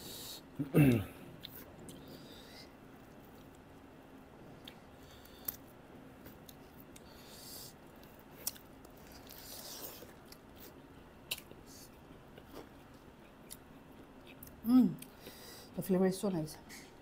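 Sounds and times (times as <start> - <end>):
soft chewing and mouth noises: 1.2 - 15.7.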